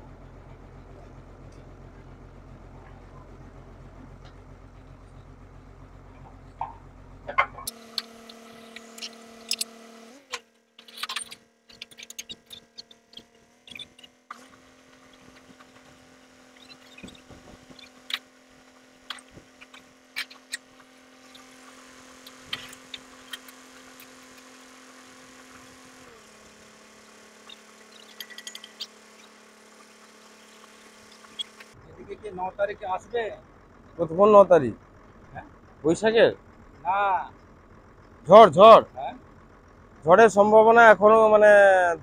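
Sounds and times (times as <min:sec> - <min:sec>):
drilling rig engine running: 0:00.0 - 0:42.0.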